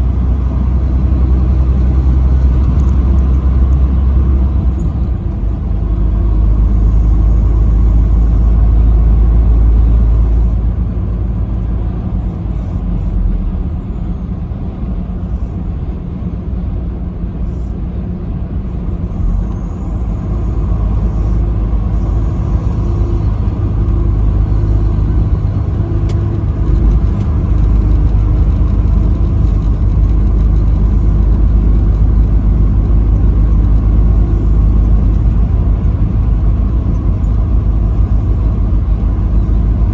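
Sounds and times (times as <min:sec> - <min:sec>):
vehicle driving at highway speed: 0:00.0 - 0:39.9.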